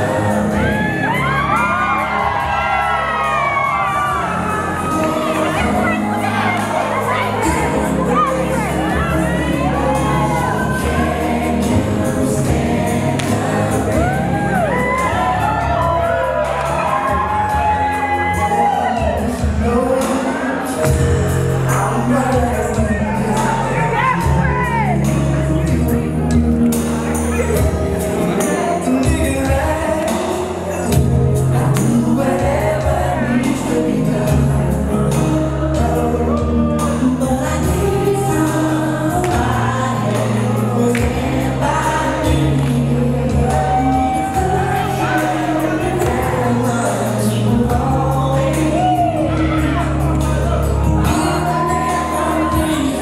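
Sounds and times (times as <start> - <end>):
bass line: 0.0 - 53.0
men singing in harmony: 0.0 - 53.0.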